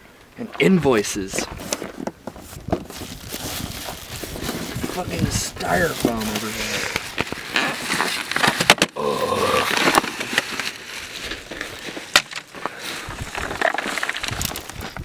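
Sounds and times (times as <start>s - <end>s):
crackling plastic and styrofoam: 1.6s - 15.0s.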